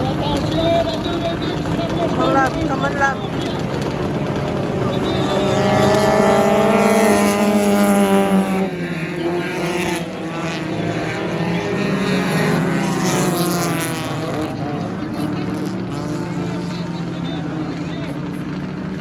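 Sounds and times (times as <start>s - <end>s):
race car engine passing: 0.0s - 19.0s.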